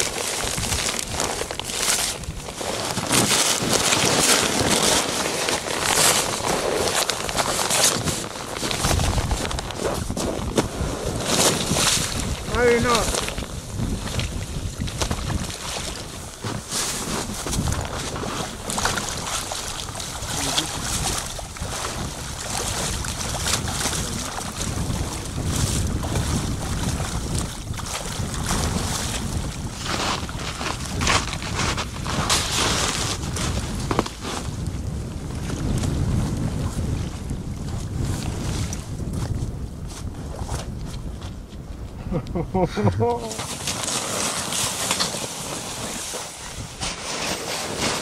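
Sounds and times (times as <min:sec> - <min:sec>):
water swishing and sloshing: 0:00.0 - 0:40.8, 0:43.2 - 0:48.0
wind buffeting microphone: 0:00.0 - 0:48.0.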